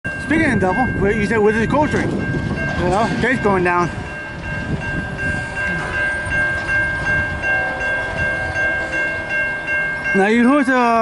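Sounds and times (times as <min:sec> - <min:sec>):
freight train rumbling: 0:00.0 - 0:11.0
high pulsing ringing tones: 0:00.1 - 0:11.0.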